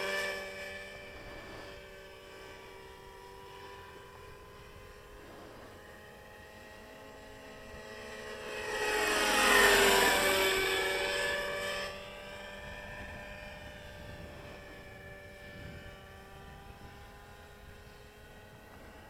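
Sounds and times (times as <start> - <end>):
model helicopter flying past: 0.0 - 19.0.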